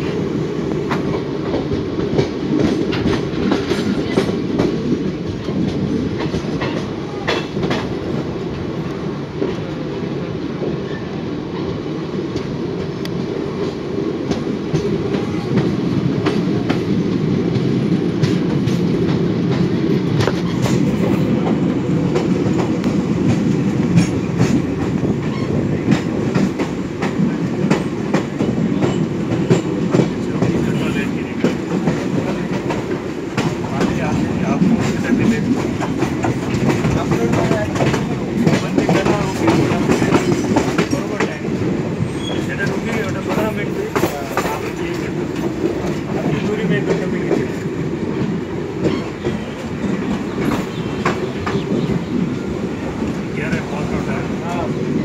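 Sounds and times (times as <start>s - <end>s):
wheels clacking over rail joints: 0.0s - 9.8s, 10.6s - 55.0s
train wheels rumbling on rails: 0.0s - 55.0s.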